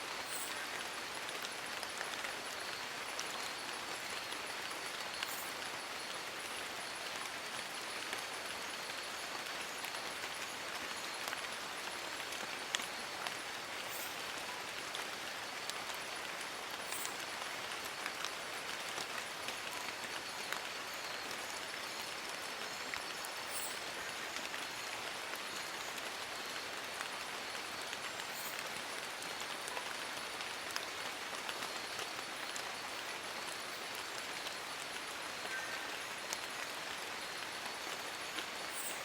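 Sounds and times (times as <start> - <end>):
rain falling on leaves: 0.0 - 39.0.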